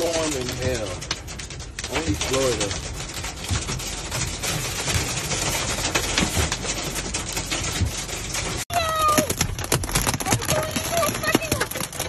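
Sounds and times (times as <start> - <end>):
hail and rain on car roof: 0.0 - 12.0.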